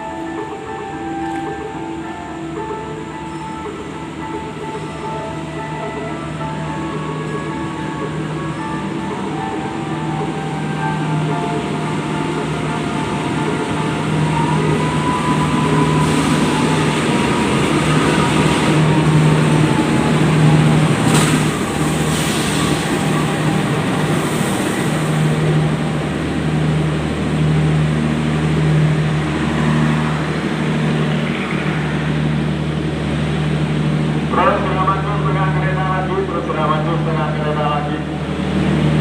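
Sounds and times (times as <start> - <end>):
train engine hum: 0.0 - 39.0.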